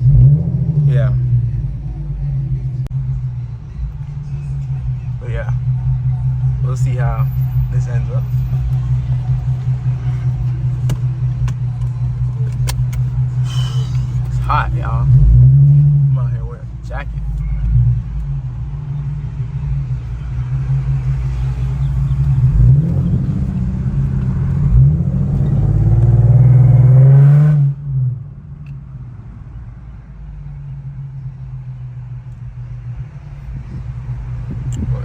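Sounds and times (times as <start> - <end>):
car engine accelerating hard: 0.0 - 29.4.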